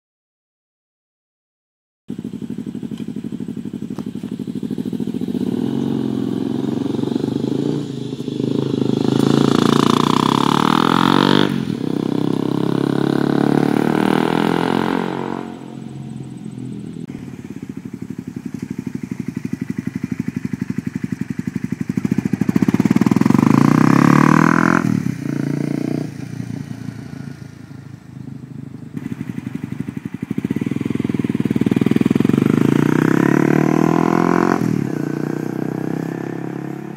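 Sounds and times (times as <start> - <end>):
motorcycle engine revving past: 2.1 - 36.9.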